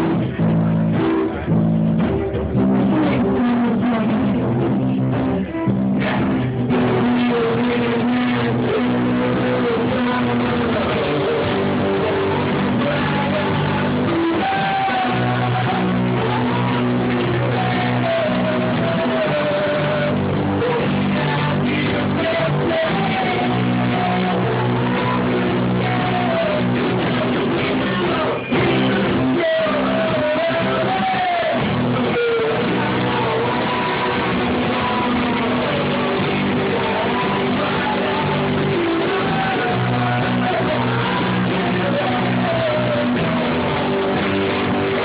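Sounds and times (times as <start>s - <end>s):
rock band playing: 0.0s - 45.0s.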